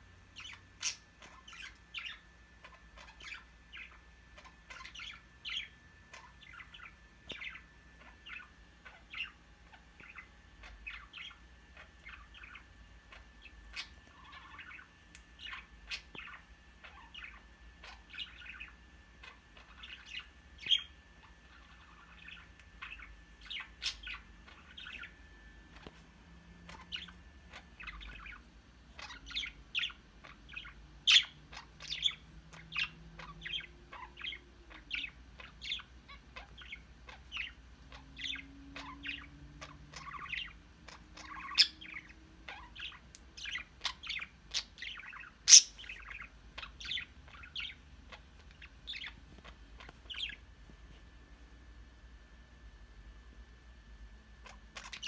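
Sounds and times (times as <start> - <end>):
budgies chirping: 0.3 - 50.5, 54.4 - 55.0.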